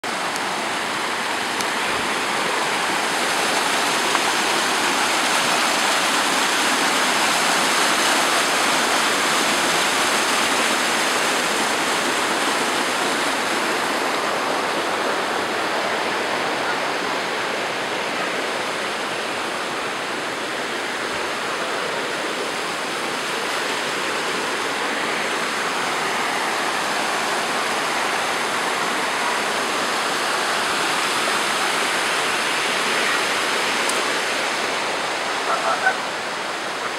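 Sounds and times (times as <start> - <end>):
waterfall cascading over rocks: 0.0 - 36.9.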